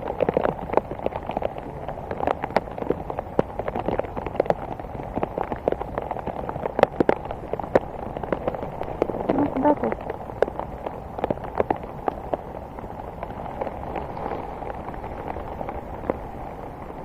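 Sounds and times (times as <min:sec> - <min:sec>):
raindrops ticking on surfaces: 0:00.0 - 0:17.0
steady wash of rain: 0:00.0 - 0:17.0.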